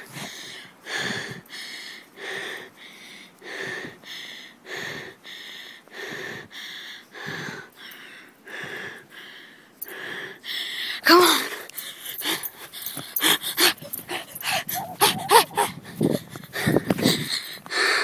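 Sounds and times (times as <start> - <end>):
person breathing heavily: 0.0 - 18.0.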